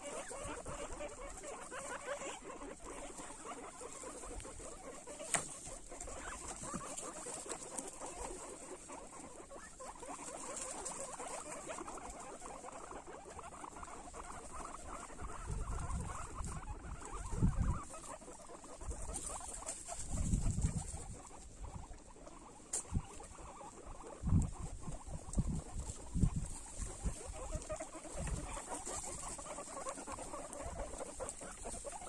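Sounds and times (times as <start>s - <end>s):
guinea pigs crunching food: 0.0s - 32.0s.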